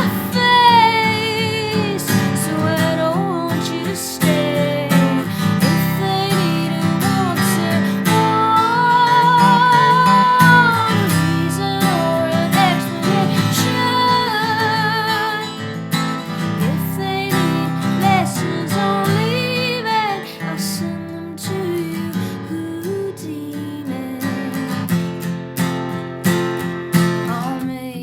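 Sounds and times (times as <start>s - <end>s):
woman singing: 0.0s - 25.0s, 27.2s - 28.0s
strummed acoustic guitar: 0.0s - 28.0s.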